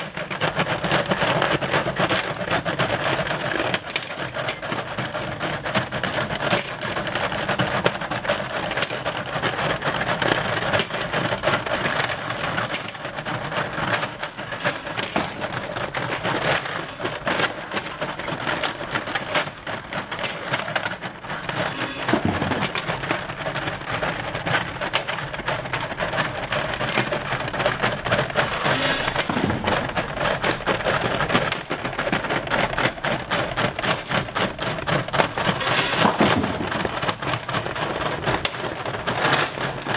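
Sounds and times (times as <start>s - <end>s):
small metal parts clattering: 0.0s - 39.9s.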